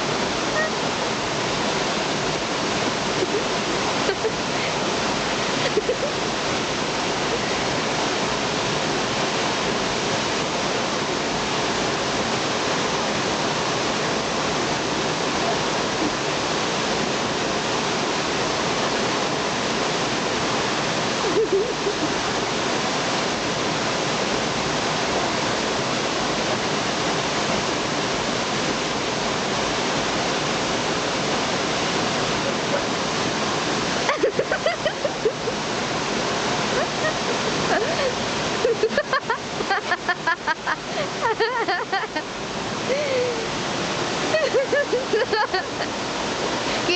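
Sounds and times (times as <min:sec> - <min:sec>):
water rushing: 0:00.0 - 0:46.9.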